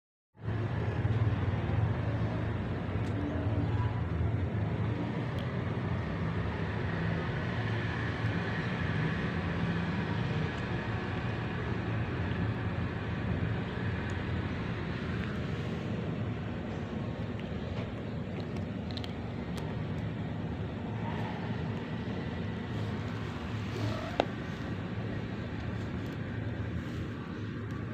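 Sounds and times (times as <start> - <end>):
low rumbling background noise: 0.4 - 27.9.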